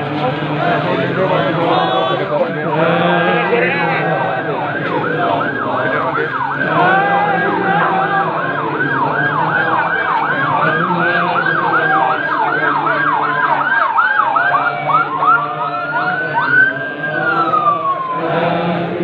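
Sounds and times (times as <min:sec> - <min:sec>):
emergency sirens yelping: 0:00.0 - 0:19.0
siren wailing: 0:00.0 - 0:19.0.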